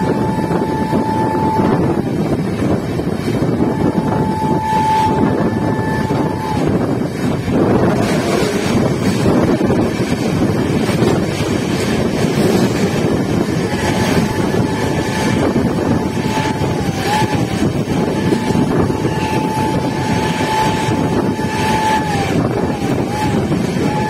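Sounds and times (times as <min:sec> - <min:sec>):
train coaches rushing past: 0:00.0 - 0:24.0.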